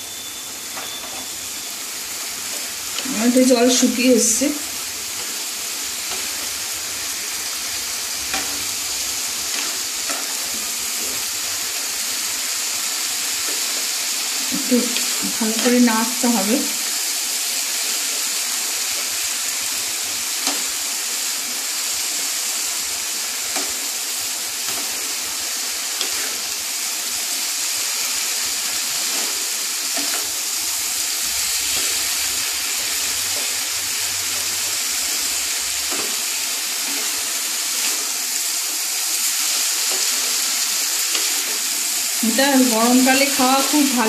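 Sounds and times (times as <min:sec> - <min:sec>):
gourd sizzling in pan: 0:00.0 - 0:44.0.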